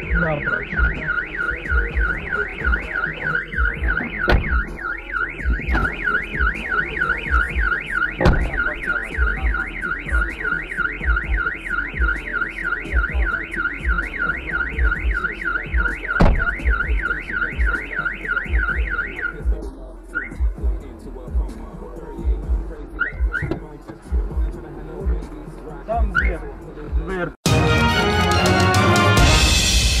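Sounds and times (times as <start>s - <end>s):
car alarm warbling: 0.0s - 20.8s, 21.4s - 25.3s, 25.9s - 26.5s.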